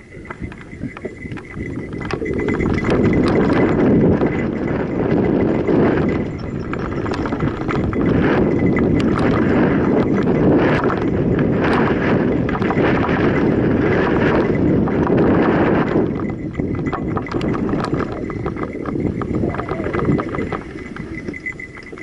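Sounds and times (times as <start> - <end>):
bike rattling and knocking: 0.0 - 22.0
tyres running over dirt: 0.0 - 22.0
wind on microphone: 0.0 - 22.0.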